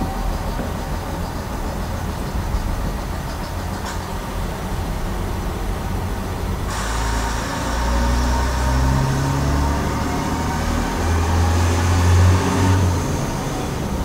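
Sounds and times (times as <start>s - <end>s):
train diesel engine running: 0.0s - 14.0s.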